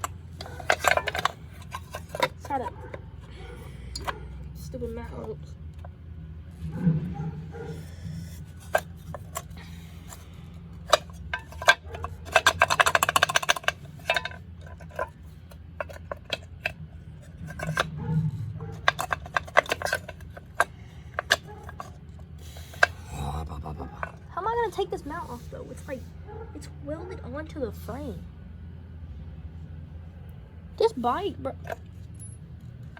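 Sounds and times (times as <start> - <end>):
metal clinks and knocks: 0.0 - 23.2, 23.9 - 25.4, 31.1 - 32.9.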